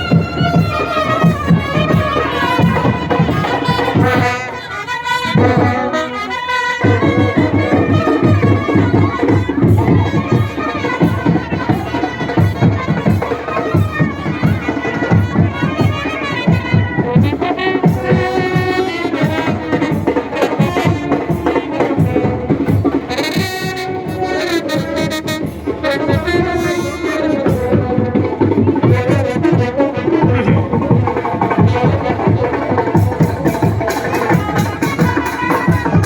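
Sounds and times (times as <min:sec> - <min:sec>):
brass band playing melody: 0:00.0 - 0:36.0
steady drum beat: 0:00.0 - 0:36.0.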